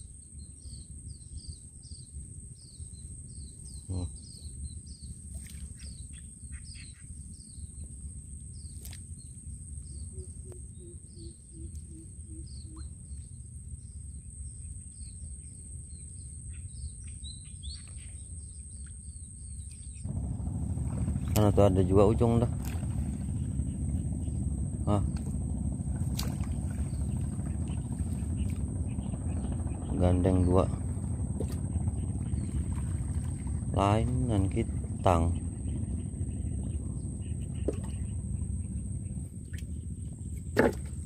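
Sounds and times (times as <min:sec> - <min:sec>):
low steady rumble: 0:00.0 - 0:41.0
small birds chirping: 0:00.0 - 0:41.0.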